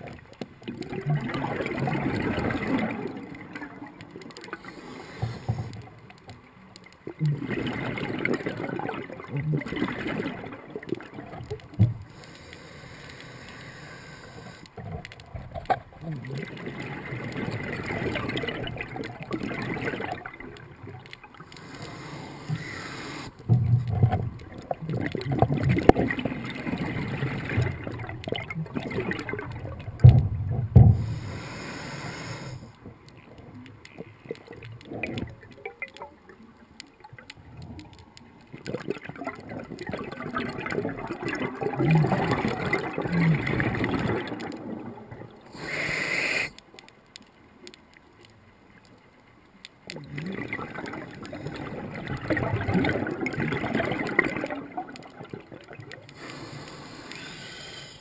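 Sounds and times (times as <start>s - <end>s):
diver's bubbles gurgling underwater: 0.0s - 12.3s, 14.4s - 46.4s, 49.8s - 57.9s.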